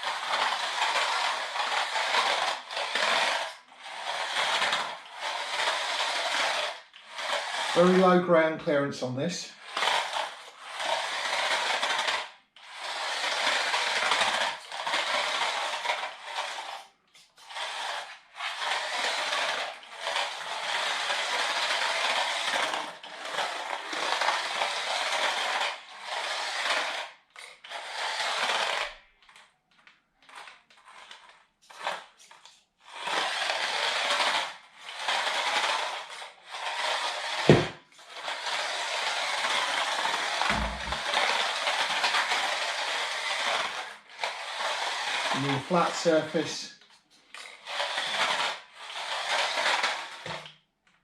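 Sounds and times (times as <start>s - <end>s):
toy car motor whirring: 0.0s - 50.7s.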